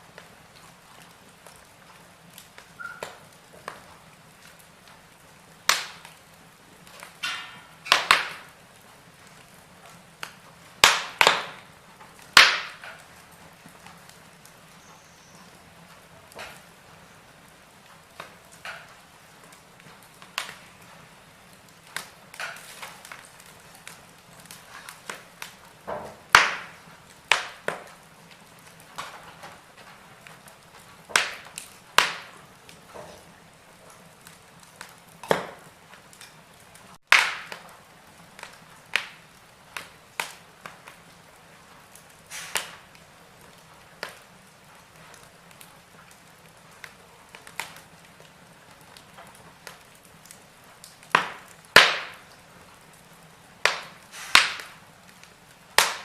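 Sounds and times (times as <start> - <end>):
faint fire hiss: 0.0 - 56.0
fireplace fire crackling: 0.0 - 56.0.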